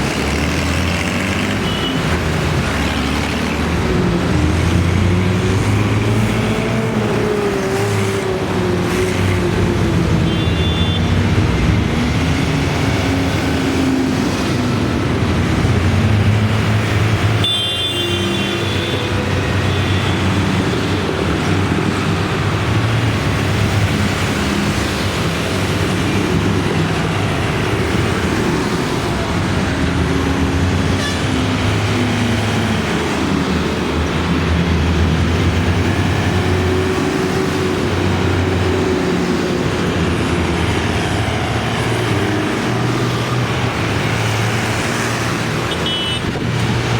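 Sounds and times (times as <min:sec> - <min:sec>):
tractor engines passing: 0:00.0 - 0:46.9.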